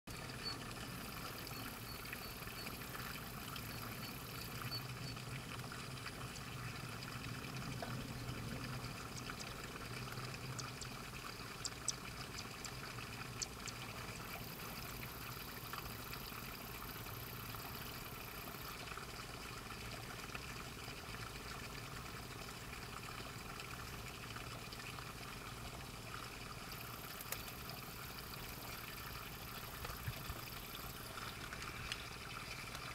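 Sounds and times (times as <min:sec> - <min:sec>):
water trickling: 0:00.1 - 0:32.9.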